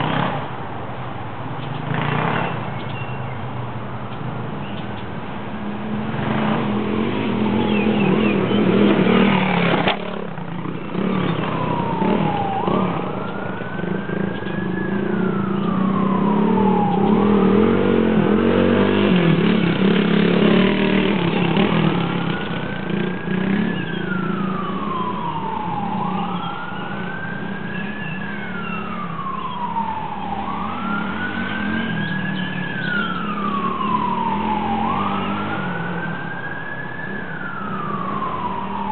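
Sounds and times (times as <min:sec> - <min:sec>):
engine droning: 0:01.6 - 0:38.9
wailing siren: 0:05.6 - 0:38.9.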